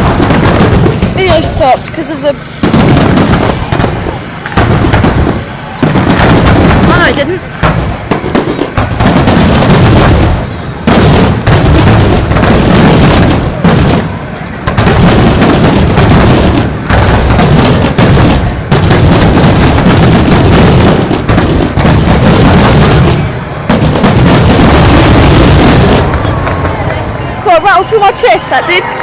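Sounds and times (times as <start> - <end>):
fireworks bangs and booms: 0.0 - 29.0.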